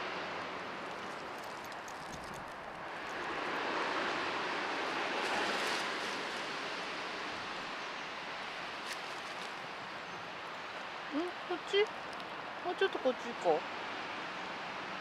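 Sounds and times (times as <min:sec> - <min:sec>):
vehicle tyre and road noise: 0:00.0 - 0:15.0.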